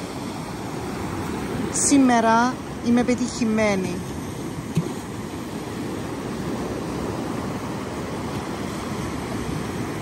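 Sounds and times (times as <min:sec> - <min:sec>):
waves breaking on shore: 0:00.0 - 0:10.0.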